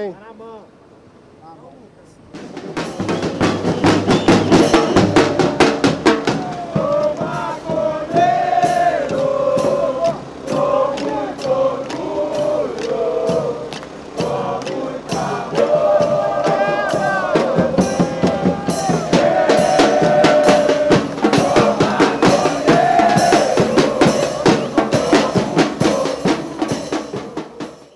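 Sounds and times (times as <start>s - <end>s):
sung melody: 2.2s - 27.7s
steady drum beat: 2.3s - 27.9s.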